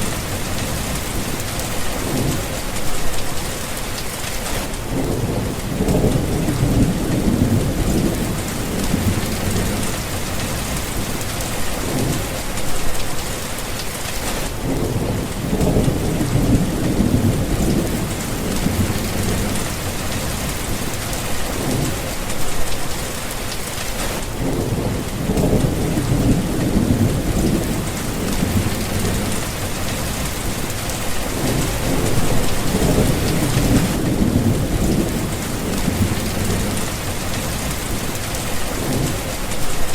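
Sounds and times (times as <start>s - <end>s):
deep thunder rumbling: 0.0s - 3.0s, 4.8s - 12.6s, 14.5s - 22.1s, 24.2s - 39.9s
heavy rain falling: 0.0s - 39.9s.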